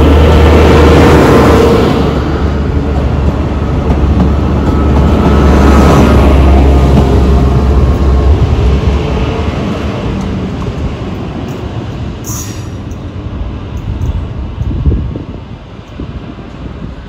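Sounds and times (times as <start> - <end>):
diesel railcar engine rumble: 0.0 - 17.0.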